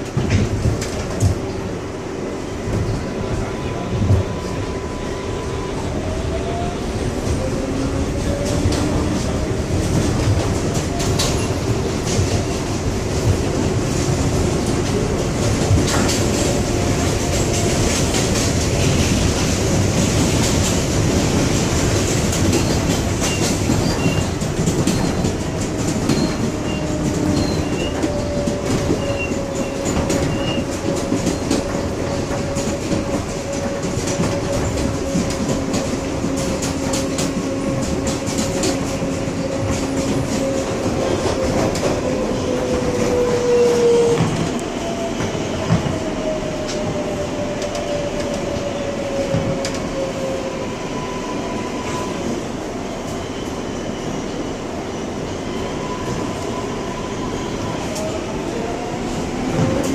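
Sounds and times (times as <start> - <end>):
train rumble: 0.0 - 59.9
train wheels clattering on rails: 0.0 - 59.9.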